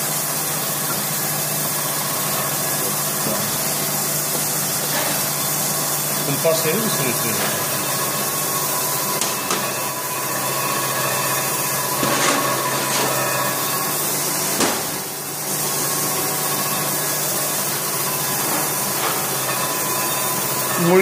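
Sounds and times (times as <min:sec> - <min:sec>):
workshop hiss and hum: 0:00.0 - 0:21.0.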